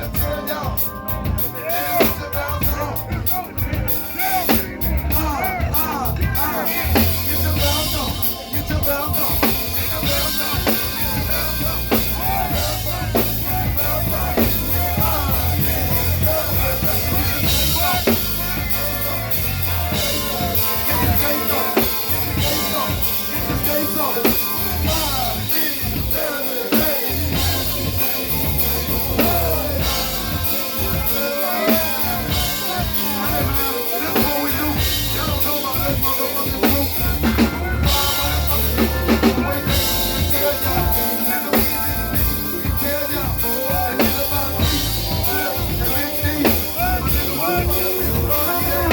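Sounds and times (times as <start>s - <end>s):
band playing: 0.0s - 48.9s
bass line: 0.0s - 48.9s
drum kit: 0.0s - 48.9s.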